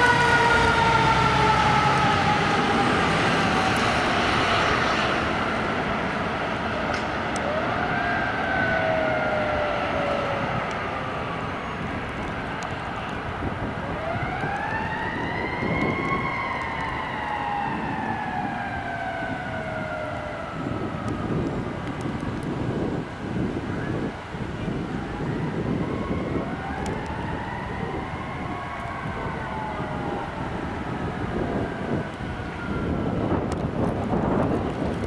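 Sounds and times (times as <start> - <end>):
emergency siren wailing: 0.0 - 35.0
road and engine noise: 0.0 - 35.0.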